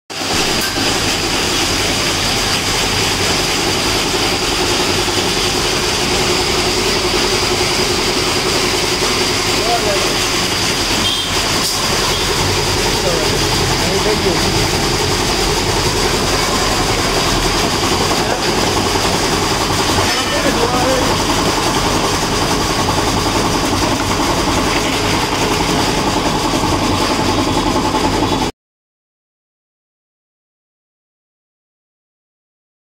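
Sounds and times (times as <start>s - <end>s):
machine rollers humming and whining: 0.2s - 28.5s.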